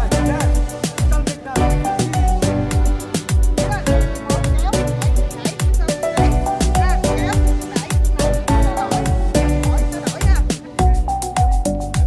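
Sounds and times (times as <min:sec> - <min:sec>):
dance music with kick drum: 0:00.0 - 0:12.0.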